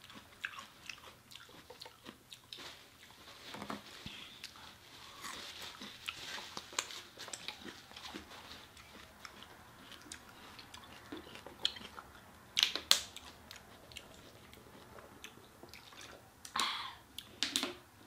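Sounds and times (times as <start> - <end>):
chewing and lip smacks: 0.0 - 3.2, 5.3 - 16.6.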